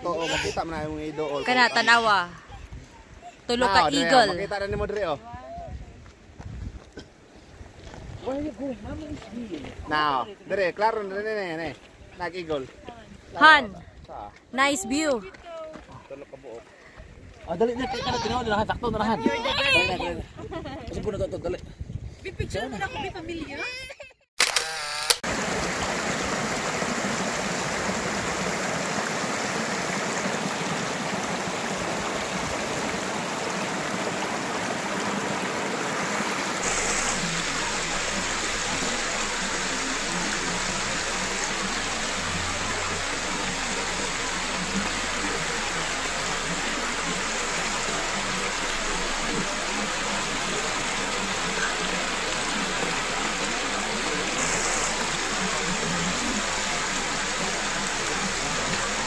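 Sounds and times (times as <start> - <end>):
creek rushing over rocks: 0.0 - 13.7, 25.2 - 59.0.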